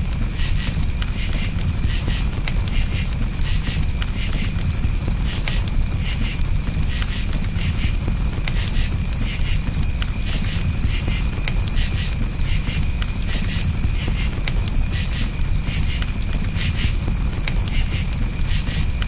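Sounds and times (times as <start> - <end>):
campfire crackling and popping: 0.0 - 19.0
crickets chirping: 0.0 - 19.0.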